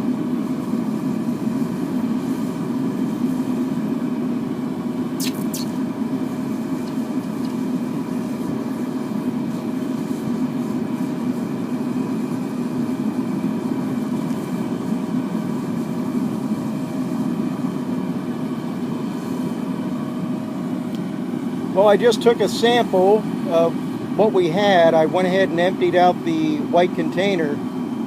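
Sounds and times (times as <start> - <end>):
gas burner roaring: 0.0 - 28.0.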